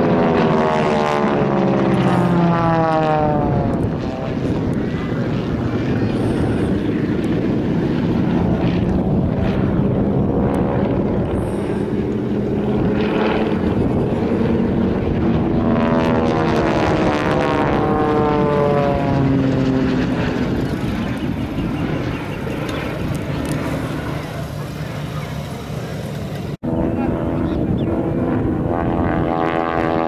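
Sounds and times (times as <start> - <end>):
propeller planes droning overhead: 0.0 - 30.0.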